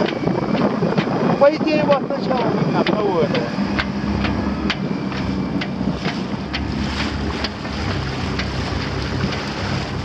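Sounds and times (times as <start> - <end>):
low steady hum: 0.0 - 10.0
water splashing along hull: 0.0 - 10.0
wind buffeting microphone: 0.0 - 10.0.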